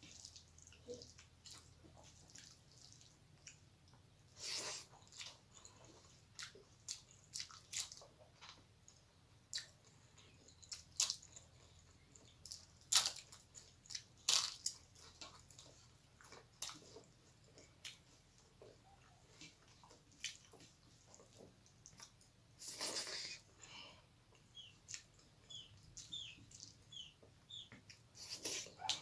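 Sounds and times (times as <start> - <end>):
wet chewing: 0.0 - 23.4.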